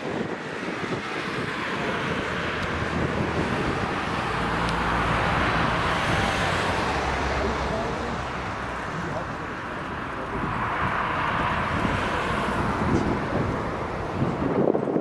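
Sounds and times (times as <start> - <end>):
truck driving past: 1.9 - 14.3.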